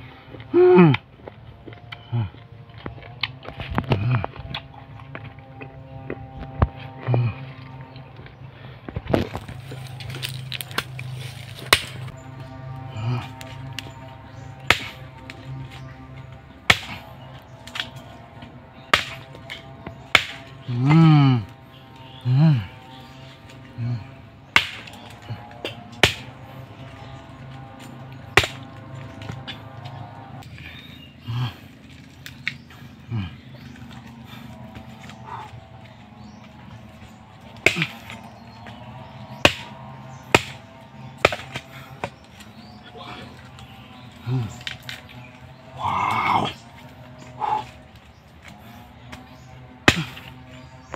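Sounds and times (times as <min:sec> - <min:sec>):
machete chopping palm fruit: 0:00.4 - 0:07.5, 0:08.9 - 0:50.9.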